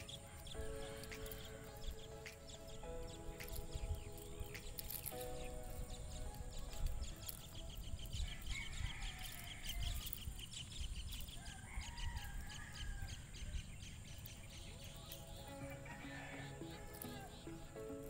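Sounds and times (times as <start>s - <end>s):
wind on microphone: 0.0s - 14.8s
wild birds chirping: 0.0s - 18.0s.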